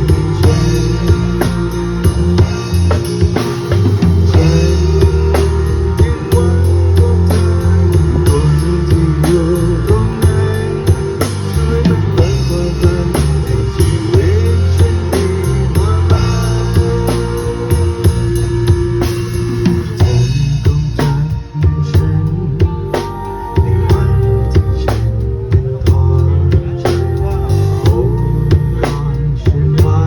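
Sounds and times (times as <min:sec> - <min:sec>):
drum kit beat: 0:00.0 - 0:30.0
live rock band playing: 0:00.0 - 0:30.0.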